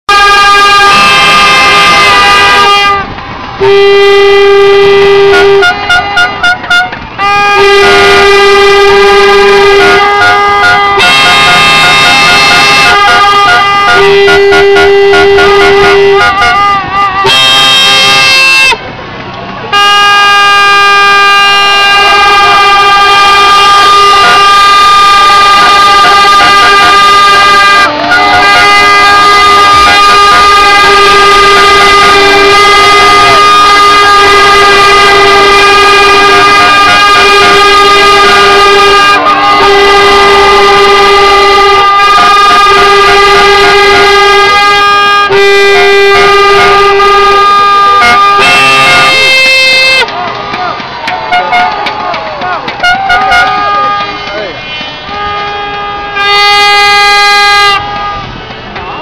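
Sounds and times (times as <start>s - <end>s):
short horn toots: 0.1s - 18.8s, 19.7s - 51.8s, 52.8s - 59.0s
boat horns blasting: 0.1s - 18.9s, 19.6s - 59.0s.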